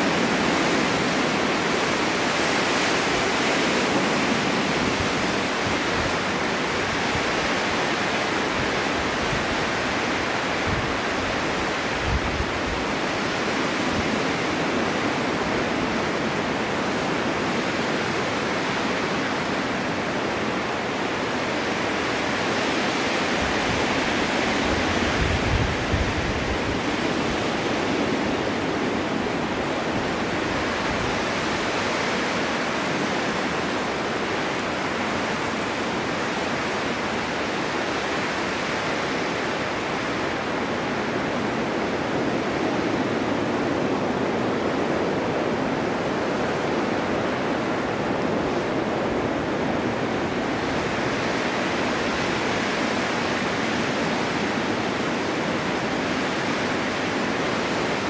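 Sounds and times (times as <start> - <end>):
storm wind rushing: 0.0 - 58.0.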